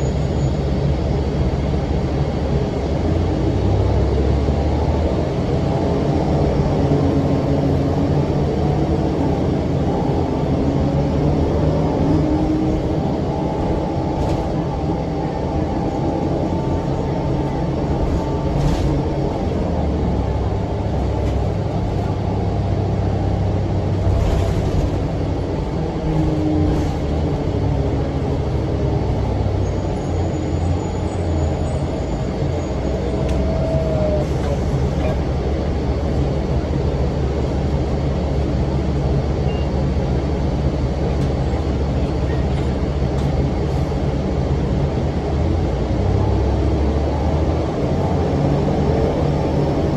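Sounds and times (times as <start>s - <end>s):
bus engine low rumble: 0.0s - 49.9s.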